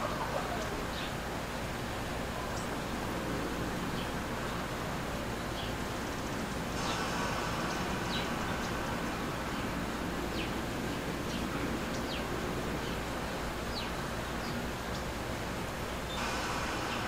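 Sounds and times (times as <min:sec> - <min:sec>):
outdoor background hiss: 0:00.0 - 0:17.0
small birds chirping: 0:00.0 - 0:17.0.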